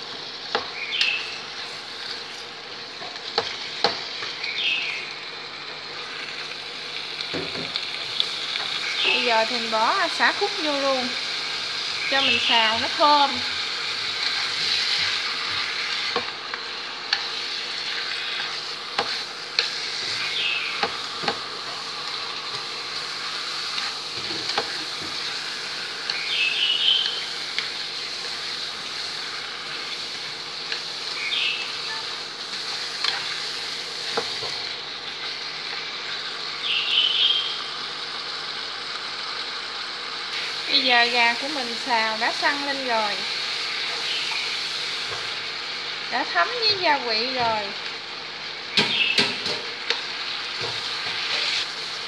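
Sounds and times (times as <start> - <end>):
chicken sizzling in oil: 0.0 - 52.0.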